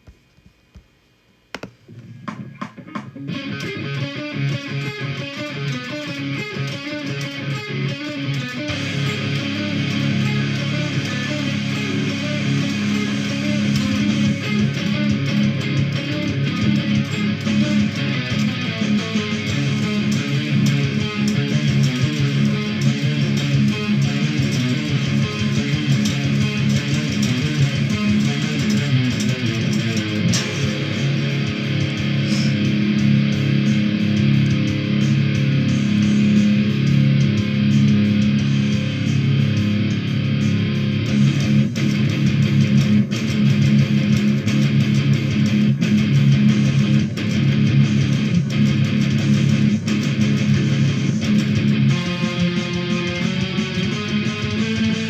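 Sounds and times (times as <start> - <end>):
metal music with electric guitar: 2.0 - 55.0.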